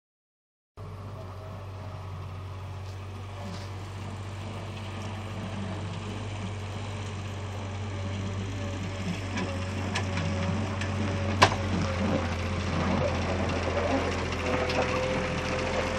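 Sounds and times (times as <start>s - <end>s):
diesel engine running: 0.8s - 15.9s.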